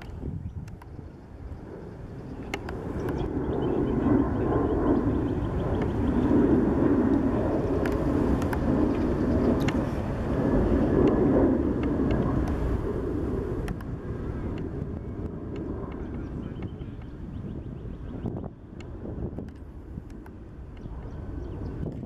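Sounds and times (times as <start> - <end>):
jet airliner roar overhead: 0.0 - 22.0.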